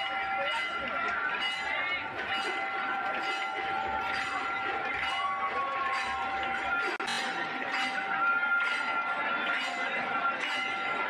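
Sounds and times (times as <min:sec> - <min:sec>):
crowd of many voices: 0:00.0 - 0:11.0.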